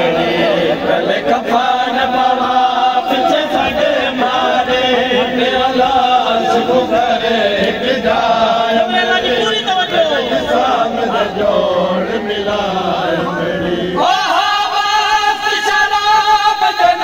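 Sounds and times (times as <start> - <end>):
men chanting a mourning lament: 0.0 - 17.0.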